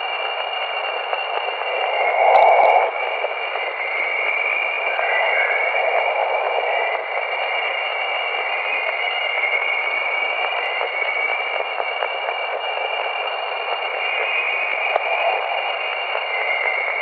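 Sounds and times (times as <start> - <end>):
high whistling tones: 0.0 - 17.0
radio static hiss: 0.0 - 17.0.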